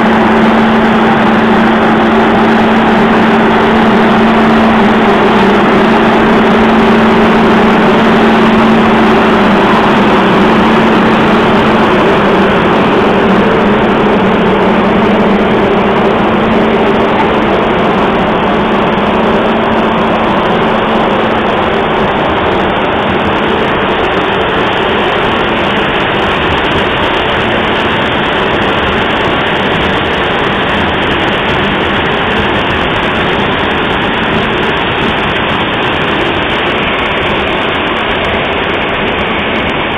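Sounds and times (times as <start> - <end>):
large fans rushing air: 0.0 - 39.9
low hum: 0.0 - 39.9.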